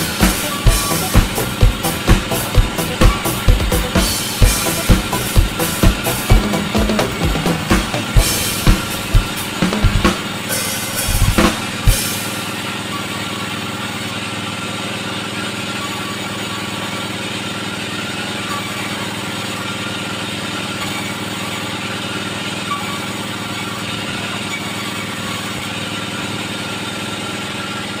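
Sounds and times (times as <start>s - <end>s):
band saw and motor droning: 0.0s - 28.0s.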